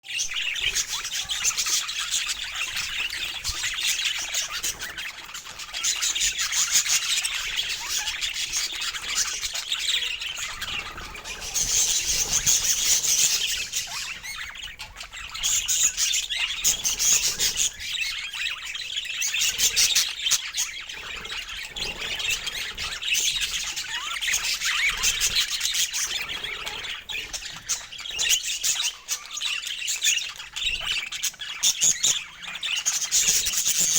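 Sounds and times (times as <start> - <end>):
budgerigars chattering: 0.1 - 33.9.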